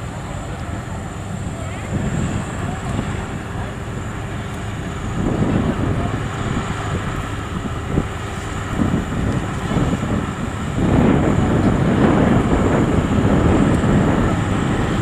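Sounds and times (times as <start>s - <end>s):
harvester engine running hard: 0.0s - 15.0s.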